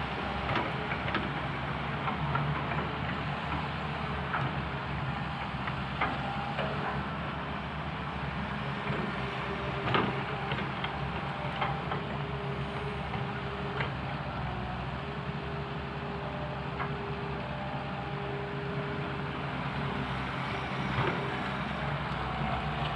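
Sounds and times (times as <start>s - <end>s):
excavator engine droning: 0.0s - 22.9s.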